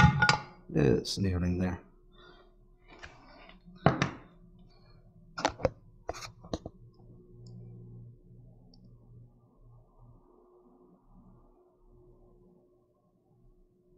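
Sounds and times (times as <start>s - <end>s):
faint low hum: 0.0s - 13.9s.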